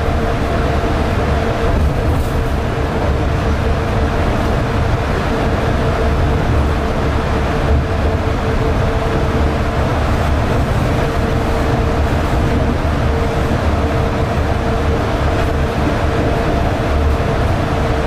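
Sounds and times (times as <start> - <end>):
train humming tone: 0.0 - 18.0
train low rumble: 0.0 - 18.0.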